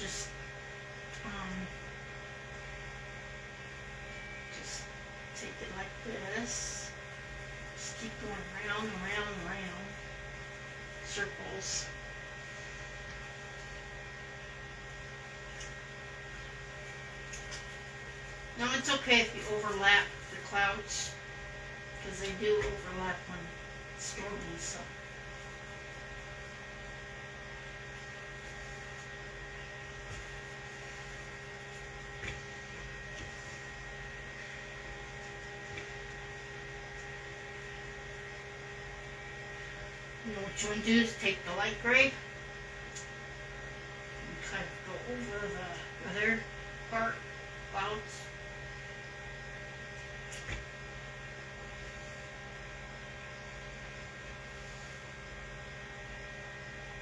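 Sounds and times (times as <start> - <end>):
electrical hum: 0.0 - 57.0.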